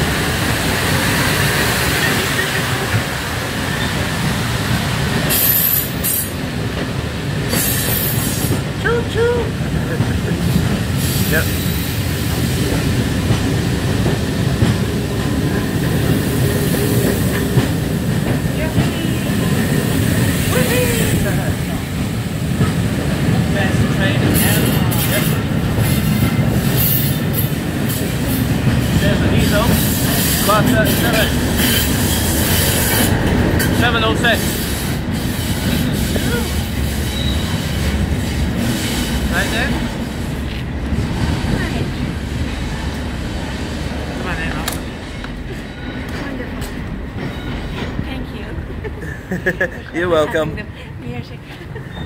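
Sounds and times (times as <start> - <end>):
diesel locomotive passing: 0.0 - 52.0
train wheels rumbling on rails: 0.0 - 52.0.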